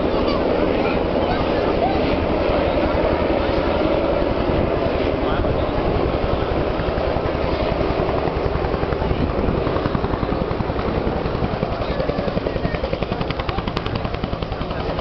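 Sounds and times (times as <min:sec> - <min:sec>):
helicopter rotor beat: 0:00.0 - 0:15.0
turbine engines rushing: 0:00.0 - 0:15.0.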